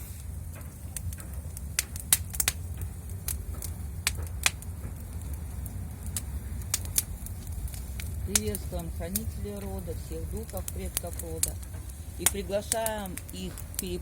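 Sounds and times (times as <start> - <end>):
fire crackling: 0.0 - 14.0
steady low rumble: 0.0 - 14.0
sharp pops and snaps: 0.2 - 14.0.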